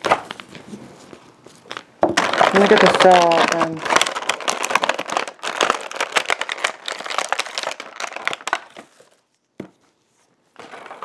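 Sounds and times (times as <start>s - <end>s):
plastic packaging crinkling: 0.2s - 9.6s.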